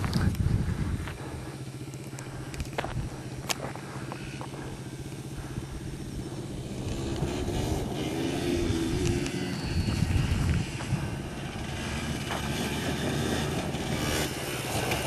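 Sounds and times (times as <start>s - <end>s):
quad engines running: 0.0s - 15.0s.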